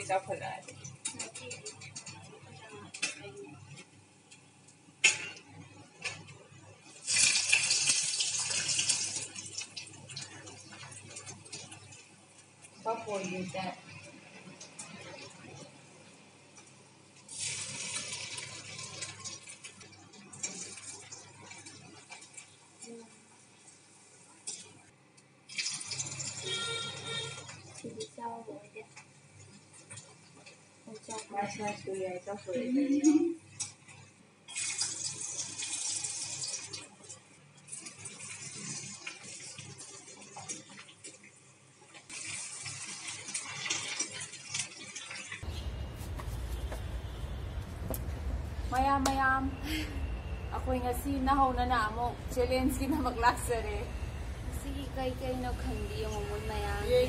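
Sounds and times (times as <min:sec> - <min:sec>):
hot oil sizzling: 0:00.0 - 0:32.6, 0:33.2 - 0:57.0.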